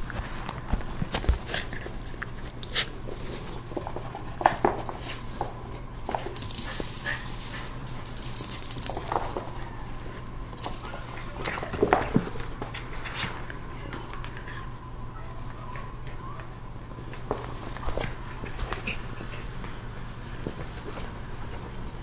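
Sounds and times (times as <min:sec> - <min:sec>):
rustling: 0:00.0 - 0:22.0
dog noises: 0:00.1 - 0:22.0.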